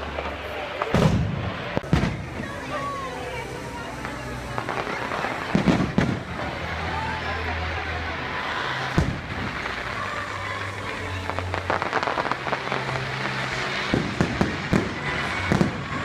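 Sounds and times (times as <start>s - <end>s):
fireworks booming: 0.0s - 6.9s, 8.9s - 16.0s
fireworks crackling: 0.0s - 16.0s
music: 0.0s - 16.0s.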